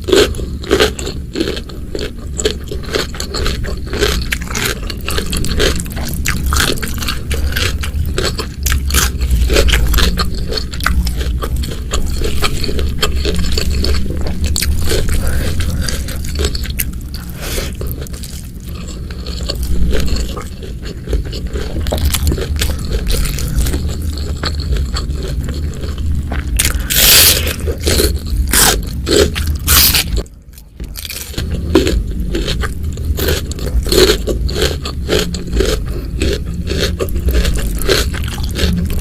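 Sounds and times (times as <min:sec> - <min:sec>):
person chewing food: 0:00.0 - 0:39.0
steady low hum: 0:00.0 - 0:39.0.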